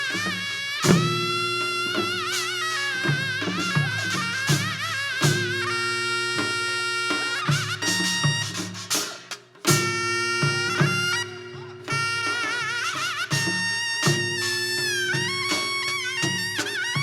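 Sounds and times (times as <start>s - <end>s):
drum strokes: 0.0s - 17.0s
reedy wind instrument melody: 0.0s - 17.0s.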